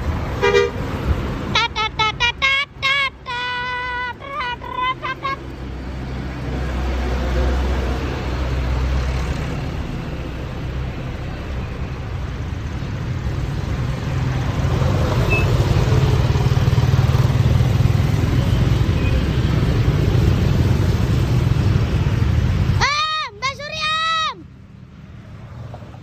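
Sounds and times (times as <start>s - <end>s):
bus engine humming: 0.0s - 26.0s
road traffic noise: 0.0s - 26.0s.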